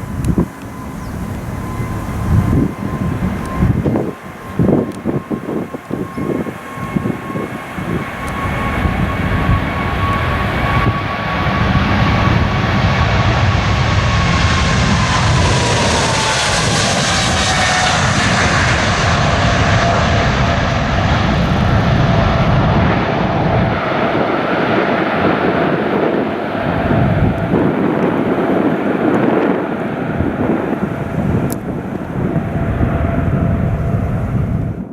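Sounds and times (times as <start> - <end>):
jet airliner taking off: 0.0 - 34.9.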